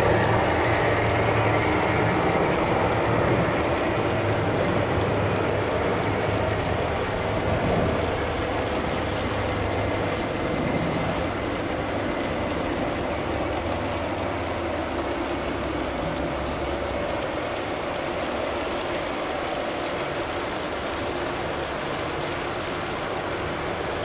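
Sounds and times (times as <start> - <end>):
model train wheels rumbling on rails: 0.0 - 24.0.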